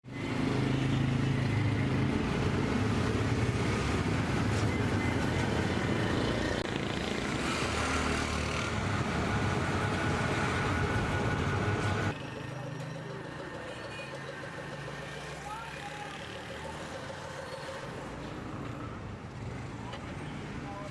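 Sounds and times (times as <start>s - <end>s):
street noise: 0.0s - 20.9s.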